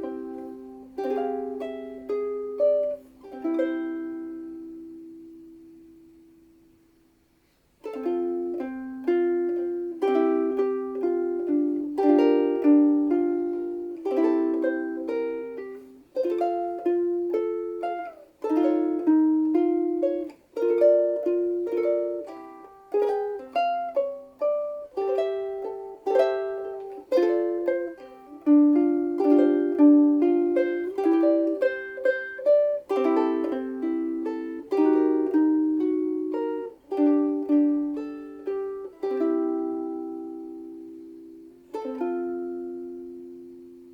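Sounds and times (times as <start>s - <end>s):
ukulele chords and melody: 0.0s - 43.9s.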